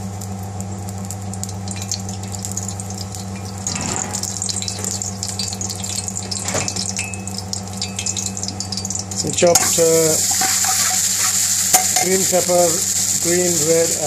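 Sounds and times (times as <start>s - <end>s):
oil crackling in a frying pan: 0.0s - 14.0s
steady low hum: 0.0s - 14.0s.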